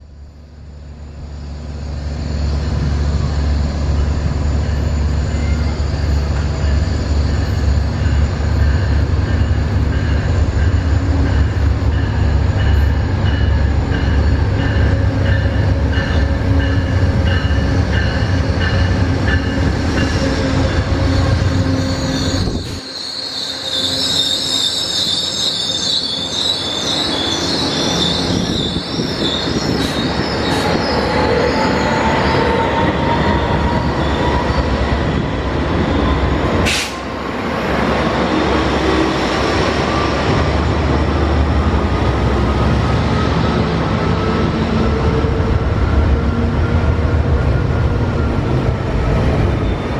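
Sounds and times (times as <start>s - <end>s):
diesel locomotive rumbling past: 0.0s - 49.9s
train wheels squealing: 0.5s - 49.9s.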